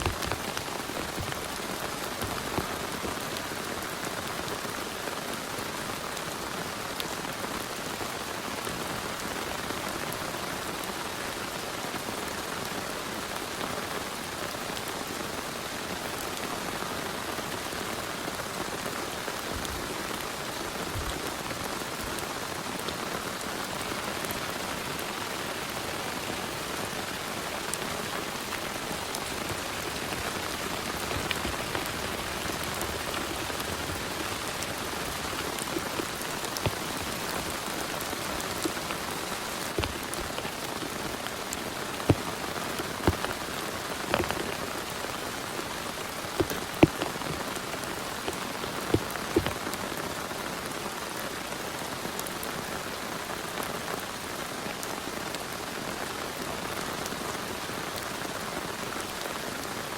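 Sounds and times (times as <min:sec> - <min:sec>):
heavy rain falling: 0:00.0 - 0:59.9
raindrops ticking close by: 0:00.0 - 0:59.9.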